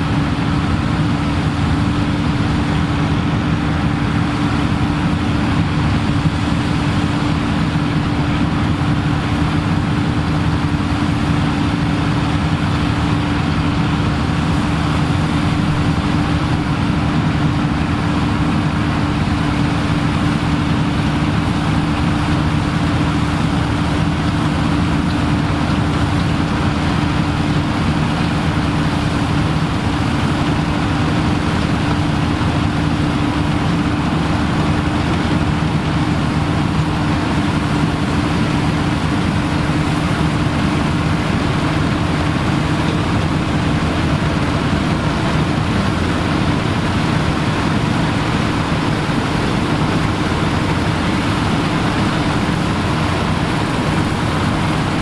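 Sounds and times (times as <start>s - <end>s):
farm machinery engine droning: 0.0s - 55.0s.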